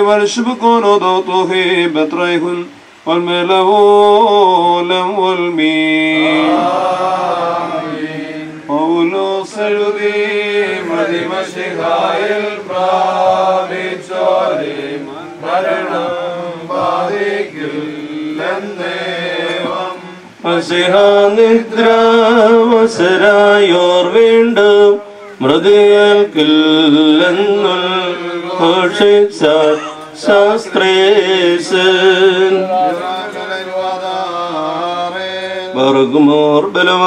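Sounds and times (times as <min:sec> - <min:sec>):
man chanting a hymn: 0:00.0 - 0:37.0.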